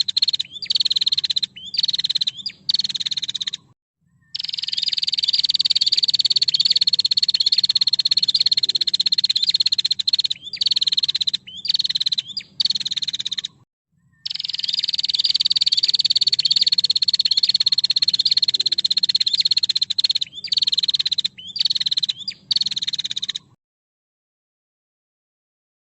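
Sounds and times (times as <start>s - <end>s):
bird rattling trill: 0.0s - 3.7s, 4.4s - 13.6s, 14.2s - 23.4s.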